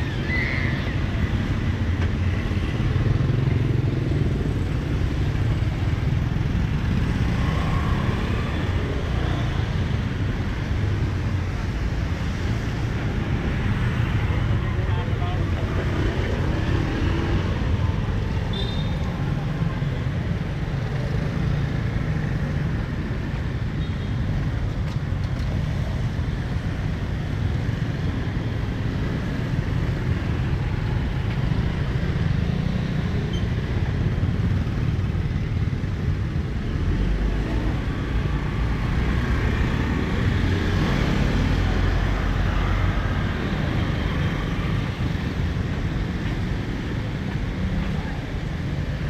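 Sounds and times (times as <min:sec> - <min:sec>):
city street traffic: 0:00.0 - 0:49.0.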